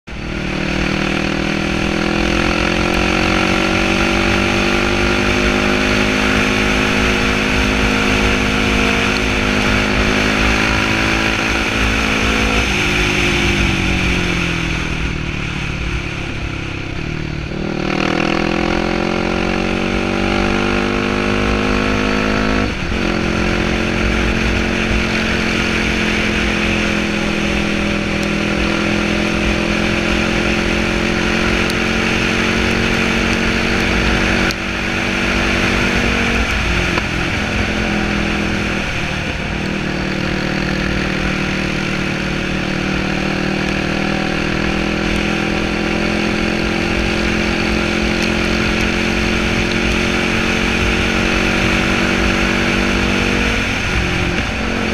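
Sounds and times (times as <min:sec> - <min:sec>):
quad bike engine running: 0:00.1 - 0:54.9.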